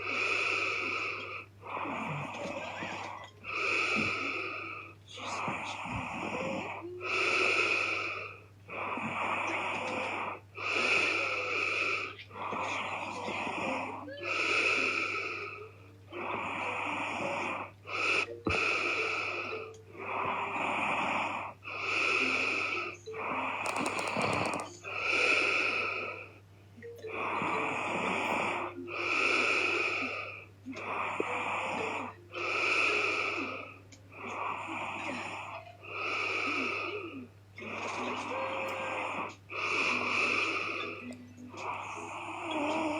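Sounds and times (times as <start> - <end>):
woman snoring heavily: 0.0 - 26.2, 27.0 - 42.9.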